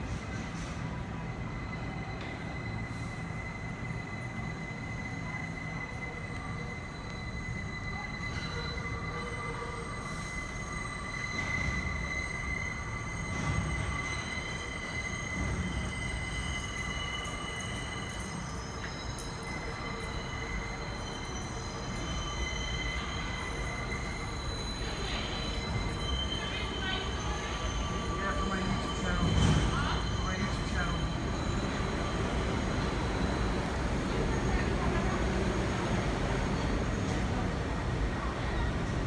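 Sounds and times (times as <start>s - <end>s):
low train rumble: 0.0s - 39.0s
train wheels squealing on rails: 0.0s - 39.0s.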